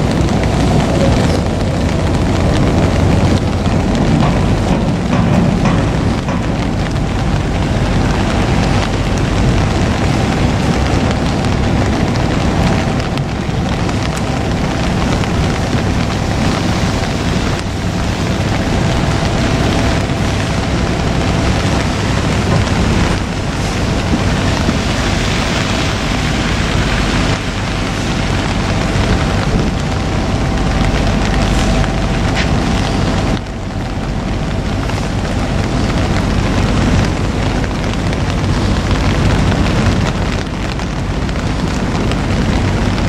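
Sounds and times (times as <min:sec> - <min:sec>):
excavator engine rumbling: 0:00.0 - 0:43.0
rain: 0:00.0 - 0:43.0
steady hum: 0:00.0 - 0:43.0
wind: 0:00.0 - 0:43.0.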